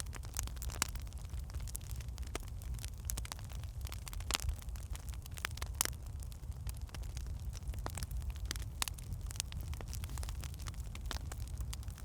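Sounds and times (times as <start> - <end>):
fire low rumble: 0.0 - 12.0
firewood crackling and popping: 0.0 - 12.0.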